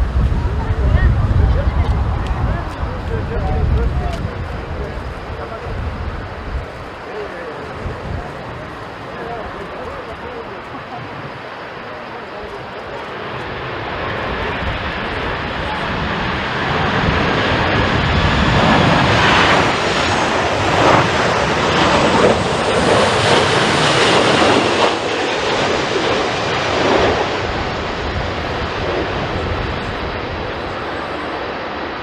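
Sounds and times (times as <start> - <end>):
jet engines passing: 0.0 - 32.0.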